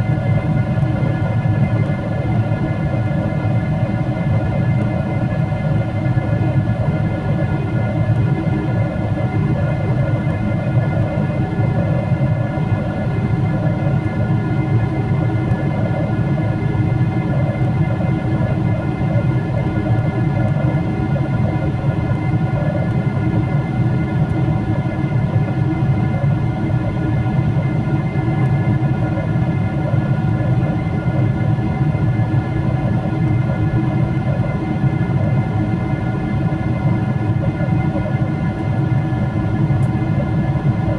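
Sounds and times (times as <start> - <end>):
airliner cabin rush and drone: 0.0 - 40.9
faint steady whining tones: 0.0 - 40.9.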